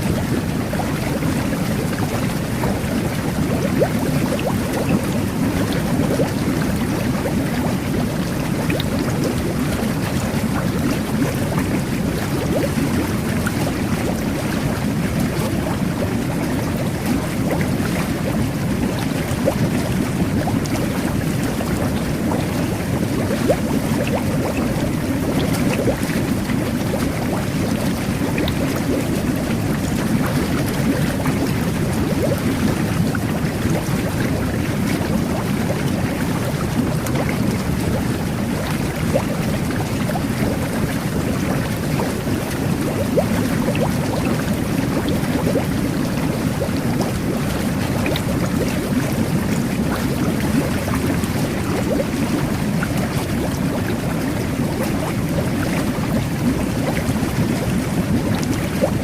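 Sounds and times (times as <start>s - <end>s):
jet bath bubbling and gurgling: 0.0s - 59.0s.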